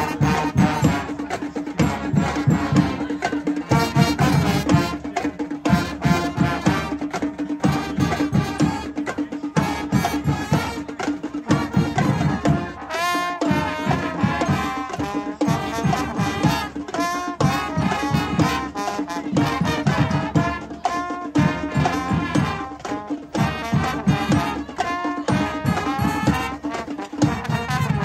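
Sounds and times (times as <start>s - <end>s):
brass hornline playing: 0.0s - 28.0s
fast drum beat: 0.0s - 28.0s.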